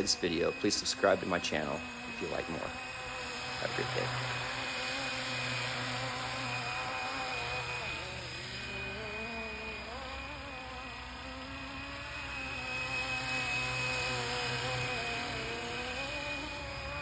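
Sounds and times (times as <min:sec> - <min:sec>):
model helicopter motor whine: 0:00.0 - 0:17.0
rotor hum: 0:00.0 - 0:17.0.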